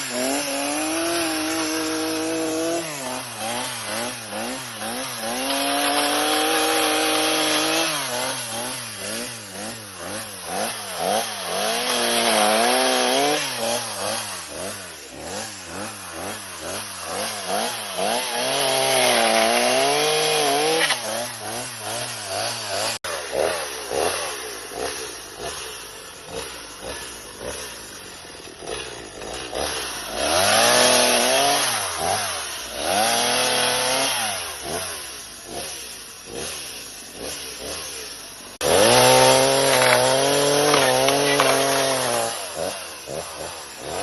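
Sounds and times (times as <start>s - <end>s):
chainsaw cutting bamboo: 0.0s - 44.0s.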